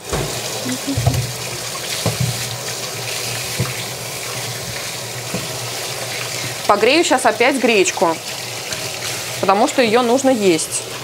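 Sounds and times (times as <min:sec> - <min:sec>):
water running into sink: 0:00.0 - 0:11.0.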